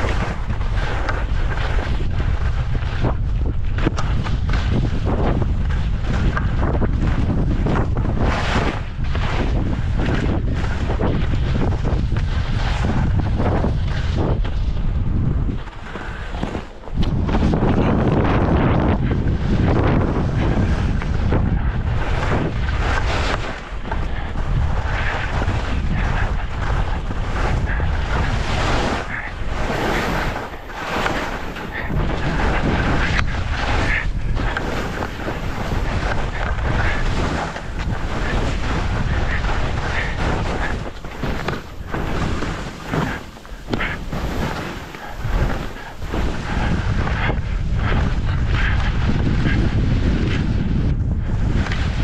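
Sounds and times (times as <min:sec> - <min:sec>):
skis scraping on snow: 0:00.0 - 0:52.0
wind buffeting microphone: 0:00.0 - 0:52.0.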